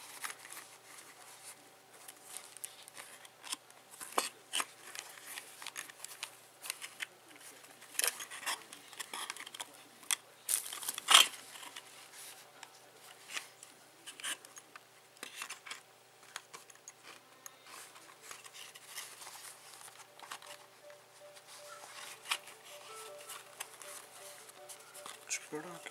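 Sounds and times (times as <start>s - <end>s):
handling clicks and rustles: 0.0s - 25.9s.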